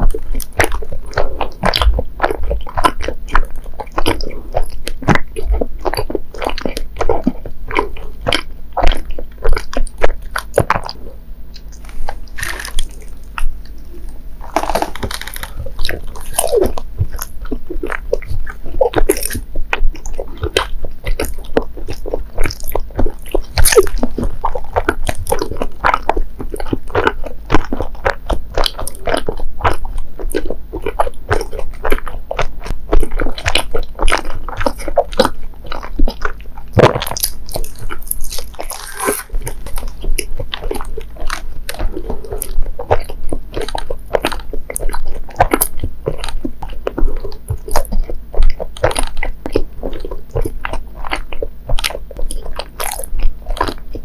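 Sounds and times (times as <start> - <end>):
biting into sweet: 0.0 - 54.0
wet mouth chewing sounds: 0.0 - 54.0.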